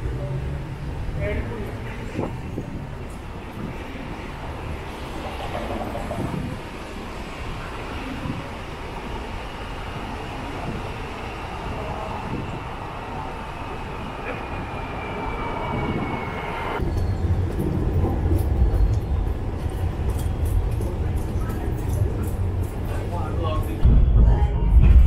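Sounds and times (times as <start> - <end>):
vehicle rumbling: 0.0 - 25.0.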